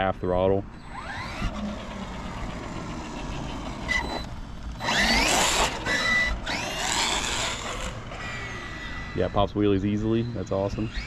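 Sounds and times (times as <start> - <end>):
electric motor whining: 0.8 - 11.0.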